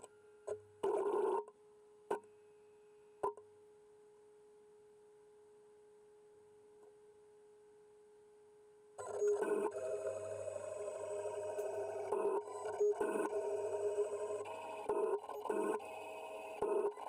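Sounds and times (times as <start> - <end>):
faint electrical whine: 0.0 - 17.0.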